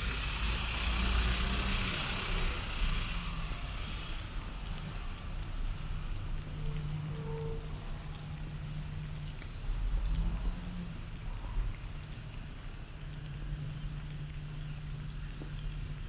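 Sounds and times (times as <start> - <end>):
rumble of passing vehicles: 0.0 - 16.0.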